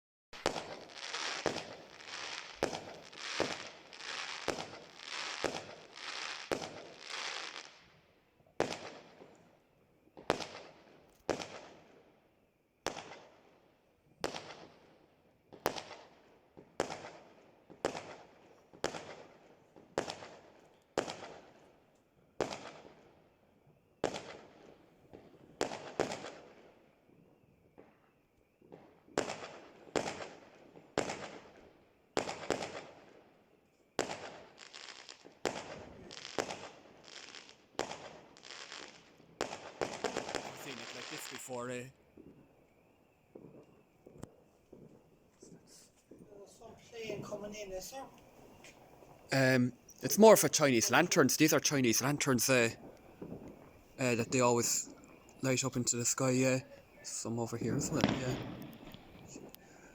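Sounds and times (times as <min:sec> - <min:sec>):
fireworks bangs: 0:00.4 - 0:07.8, 0:08.6 - 0:09.5, 0:10.2 - 0:11.9, 0:12.8 - 0:13.4, 0:14.2 - 0:14.9, 0:15.5 - 0:21.6, 0:24.0 - 0:26.7, 0:28.7 - 0:33.3, 0:33.9 - 0:42.5, 0:43.2 - 0:59.9
fireworks crackling: 0:00.4 - 0:07.9, 0:08.6 - 0:09.5, 0:10.2 - 0:11.9, 0:12.9 - 0:13.4, 0:14.2 - 0:21.5, 0:24.0 - 0:26.7, 0:28.7 - 0:33.3, 0:33.9 - 0:59.9.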